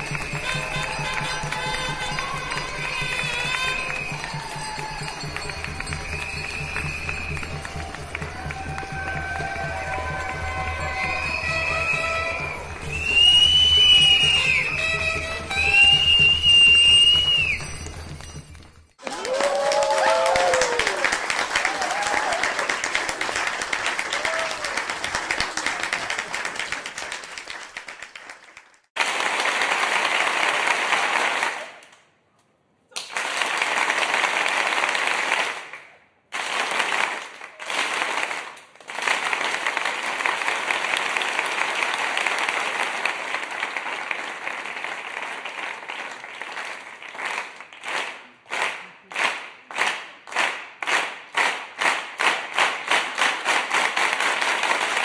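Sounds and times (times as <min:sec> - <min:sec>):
crowd applause: 0:00.0 - 0:31.9, 0:32.9 - 0:55.0
rhythmic clapping in unison: 0:00.0 - 0:32.1, 0:32.9 - 0:55.0.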